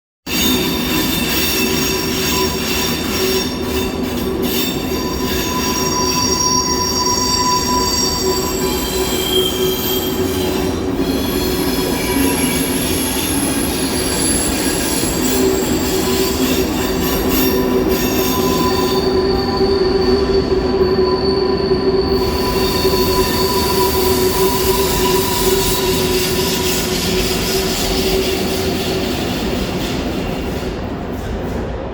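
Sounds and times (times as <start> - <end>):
train wheels squealing on rails: 0.2 - 31.9
train running rumble: 0.4 - 31.9.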